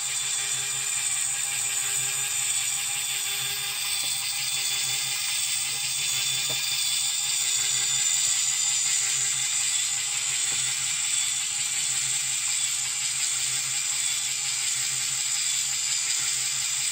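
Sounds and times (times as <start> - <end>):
toy motor whirring: 0.0 - 16.9.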